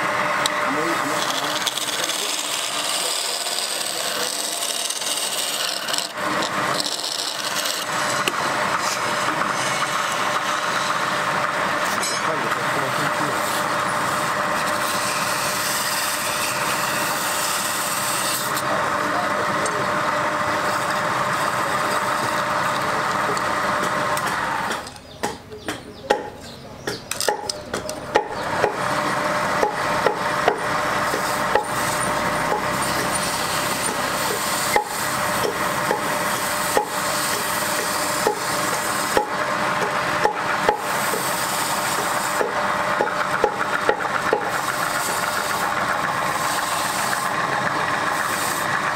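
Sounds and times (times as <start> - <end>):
wood scraping on a lathe: 0.0 - 25.0, 27.2 - 48.9.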